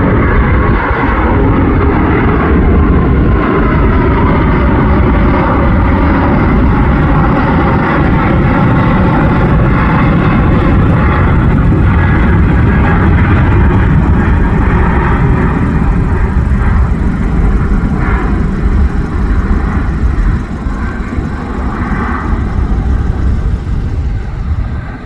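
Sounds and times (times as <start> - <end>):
jet engines at takeoff: 0.0 - 25.0.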